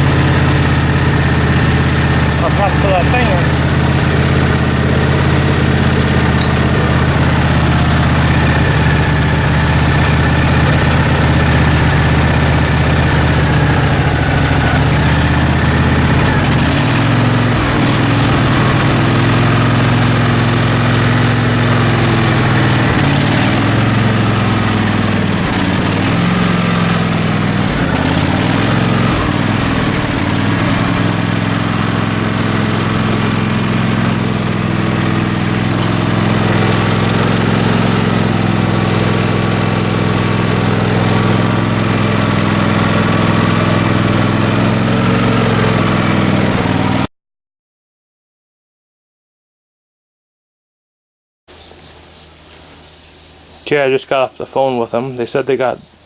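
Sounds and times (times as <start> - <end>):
lawn mower engine running: 0.0 - 47.1.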